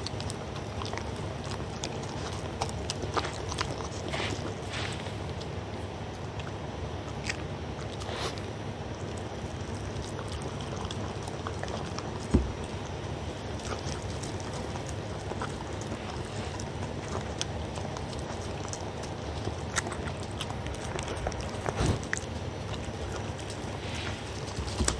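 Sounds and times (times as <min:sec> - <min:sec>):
dog lapping and chewing food: 0:00.0 - 0:24.9.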